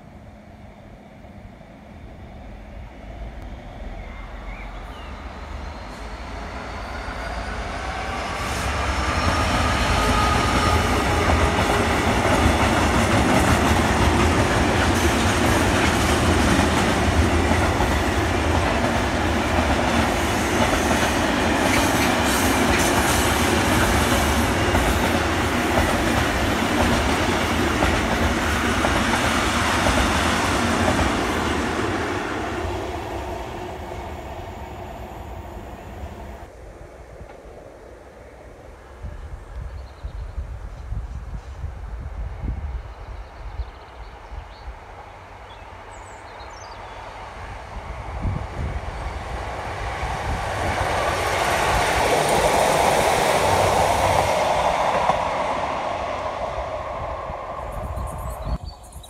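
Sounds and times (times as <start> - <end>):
diesel locomotive engine: 0.0 - 39.7, 40.4 - 59.0.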